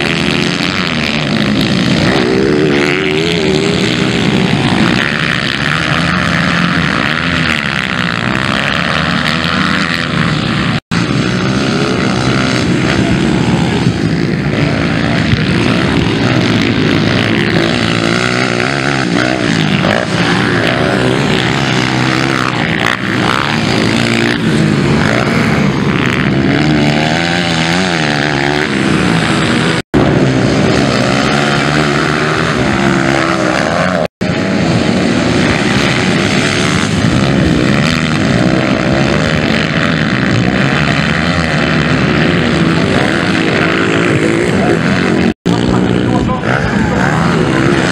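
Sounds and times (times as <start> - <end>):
motocross bikes revving: 0.0 - 47.9.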